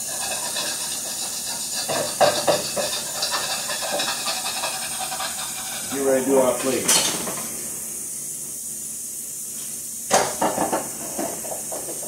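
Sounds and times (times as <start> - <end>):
food sizzling: 0.0 - 8.3, 10.1 - 12.0.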